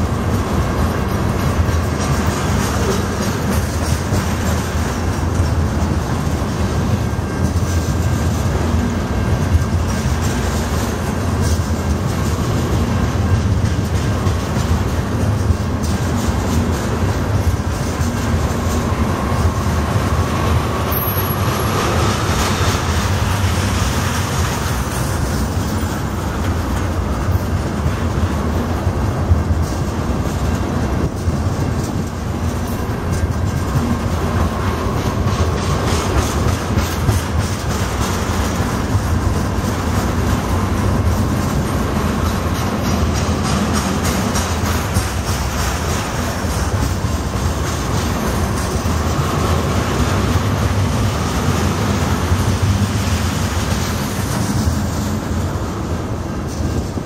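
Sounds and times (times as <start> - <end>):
train wheels rumbling on rail: 0.0 - 57.0
wheels clicking over track: 0.0 - 57.0.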